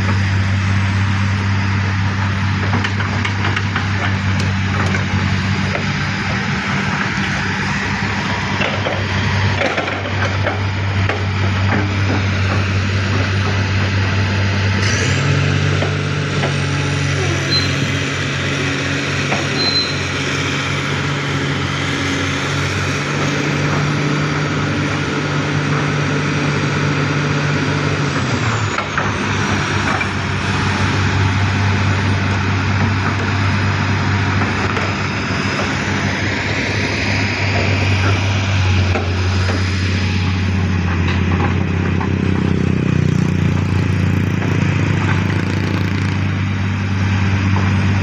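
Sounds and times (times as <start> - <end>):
excavator diesel engine: 0.0 - 48.0
higher engine tone: 0.0 - 48.0.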